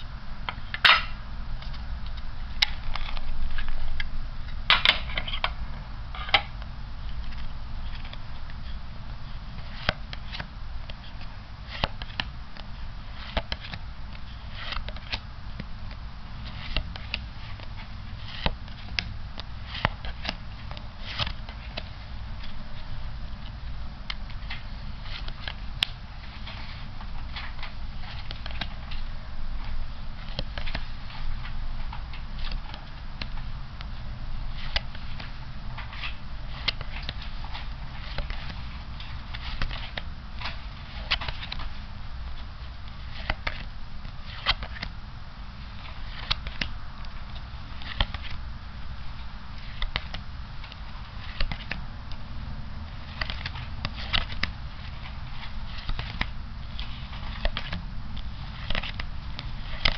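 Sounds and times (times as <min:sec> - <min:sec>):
low steady hum: 0:00.0 - 0:59.9
playing cards clicking and snapping: 0:09.5 - 0:45.0, 0:45.7 - 0:48.4, 0:49.2 - 0:52.2, 0:53.0 - 0:59.9.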